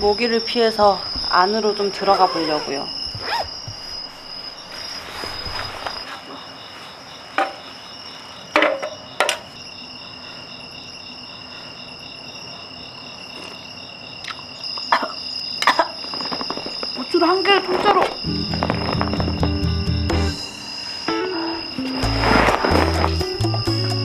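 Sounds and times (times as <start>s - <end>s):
crickets trilling: 0.0s - 24.0s
pulsing cricket chirp: 0.0s - 24.0s.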